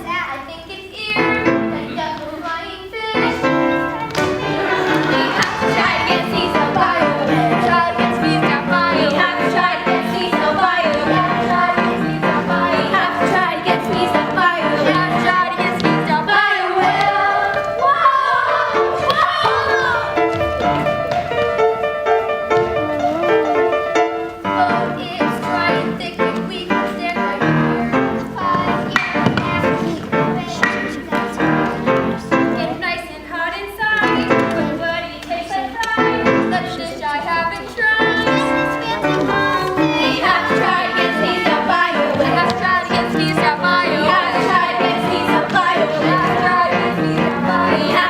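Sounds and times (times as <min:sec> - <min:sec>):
voices singing: 0:00.0 - 0:21.6, 0:22.2 - 0:48.0
instrumental accompaniment: 0:01.1 - 0:33.0, 0:33.9 - 0:48.0.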